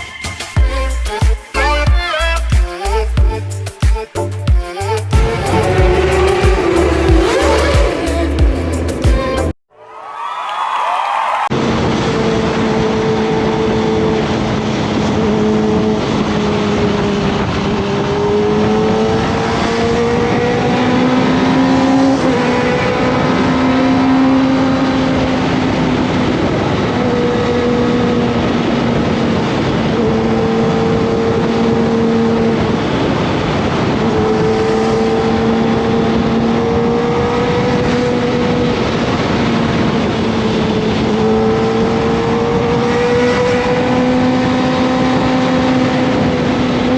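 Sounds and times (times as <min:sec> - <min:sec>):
wind and road noise: 0:00.0 - 0:09.6, 0:11.4 - 0:46.9
motorcycle engine running: 0:04.5 - 0:09.6, 0:12.1 - 0:46.9.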